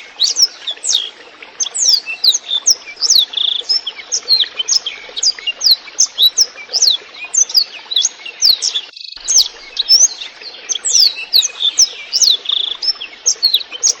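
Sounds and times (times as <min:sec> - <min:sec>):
canary singing: 0:00.0 - 0:14.0
water trickling: 0:00.0 - 0:14.0.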